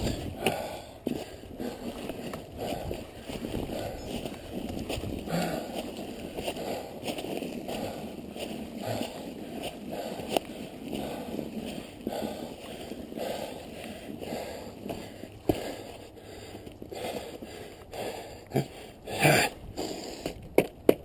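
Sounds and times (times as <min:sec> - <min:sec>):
bike tyres churning through snow: 0:00.0 - 0:17.7.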